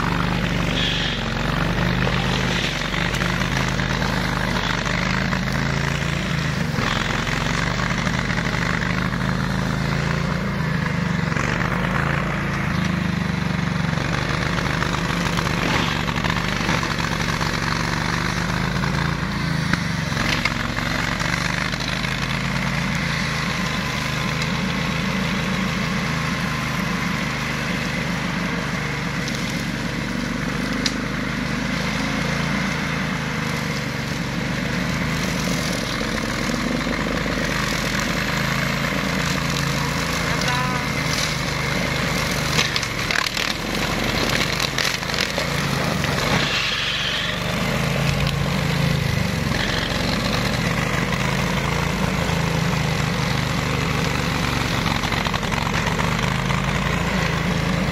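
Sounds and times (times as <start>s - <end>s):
mower engine running: 0.0s - 57.9s.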